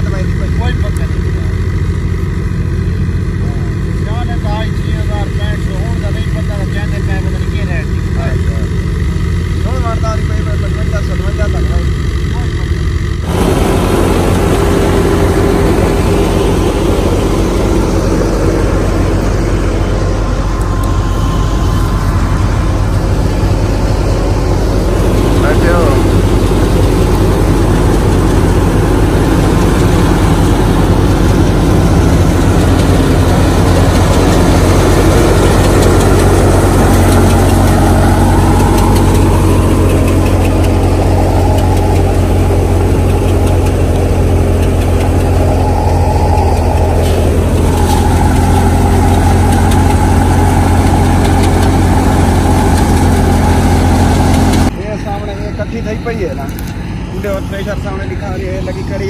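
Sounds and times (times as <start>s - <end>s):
thresher machine drone: 0.0s - 59.0s.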